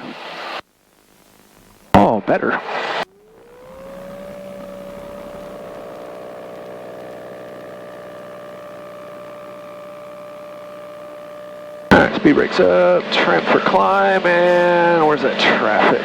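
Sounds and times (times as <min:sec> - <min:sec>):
aircraft engine throttling up: 0:01.4 - 0:16.0.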